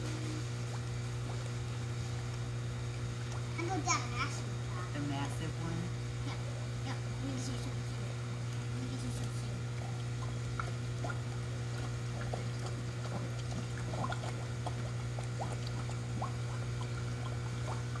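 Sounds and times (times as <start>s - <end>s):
fish slurping at water surface: 0.0s - 4.7s, 6.4s - 18.0s
steady low hum: 0.0s - 18.0s.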